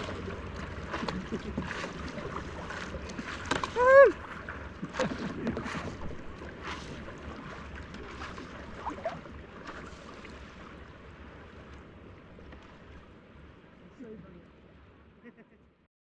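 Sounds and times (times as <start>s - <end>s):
water splashing and lapping: 0.0s - 15.2s.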